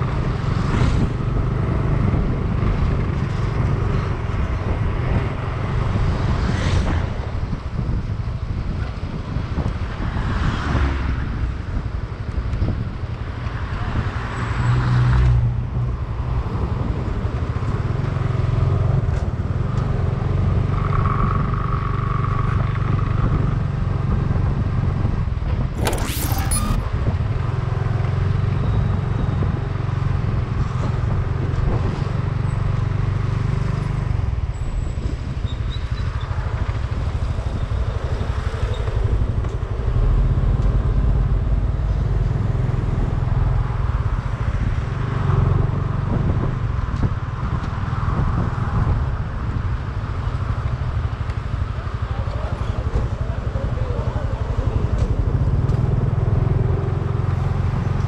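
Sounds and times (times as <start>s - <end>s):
road vehicle rumble: 0.0s - 58.0s.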